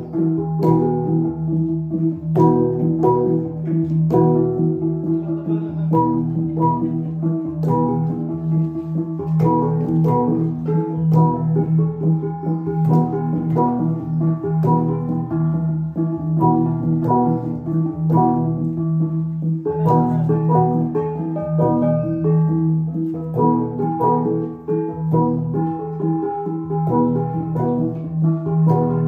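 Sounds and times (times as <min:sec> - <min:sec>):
gong ensemble playing: 0:00.0 - 0:29.0.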